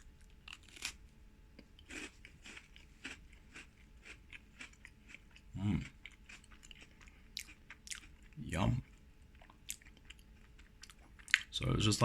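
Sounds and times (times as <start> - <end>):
crunching biscuit bites: 0.0 - 11.6.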